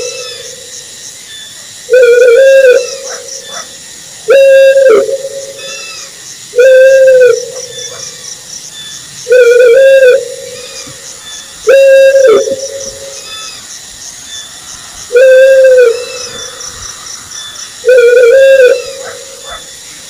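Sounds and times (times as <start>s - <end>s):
owl hooting: 0.0s - 0.7s, 1.9s - 8.2s, 9.2s - 13.6s, 15.1s - 19.7s.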